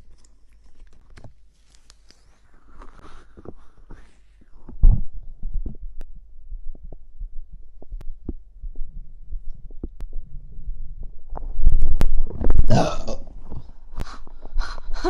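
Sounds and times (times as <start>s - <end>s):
stomach gurgling: 2.3s - 15.0s.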